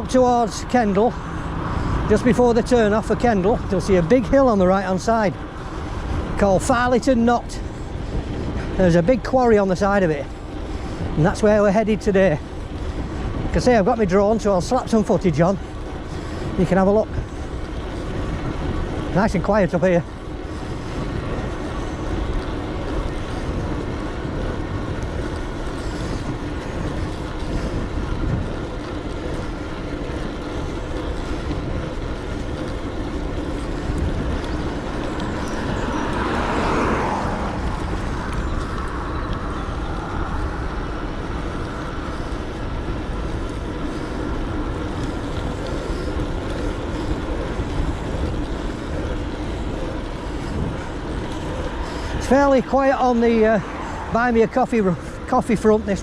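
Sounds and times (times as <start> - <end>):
road noise: 0.0 - 56.0
vehicle passing: 0.0 - 56.0
wind on microphone: 0.0 - 56.0.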